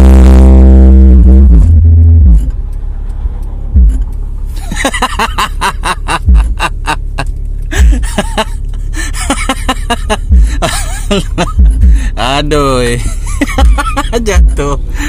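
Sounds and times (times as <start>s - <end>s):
hip-hop beat with deep bass: 0.0s - 15.0s.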